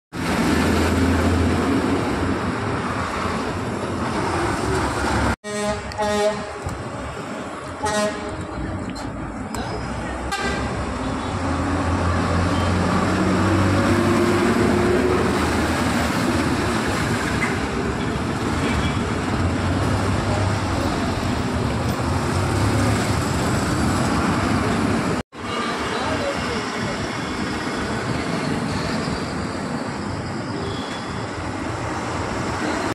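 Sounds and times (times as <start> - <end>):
cars and motorbikes: 0.1 - 32.9
road traffic noise: 0.1 - 32.9
bus diesel engine passing: 0.2 - 30.5.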